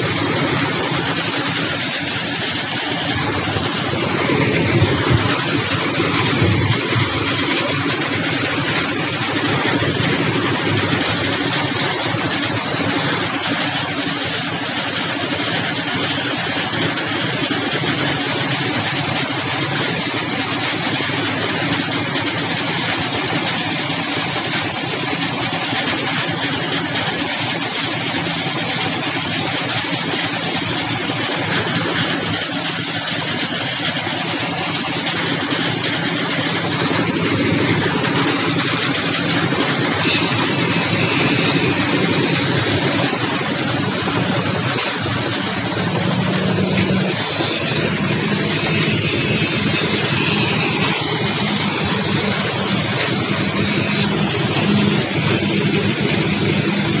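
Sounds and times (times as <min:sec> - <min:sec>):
engine running: 0:00.0 - 0:57.0
noisy construction site: 0:00.0 - 0:57.0.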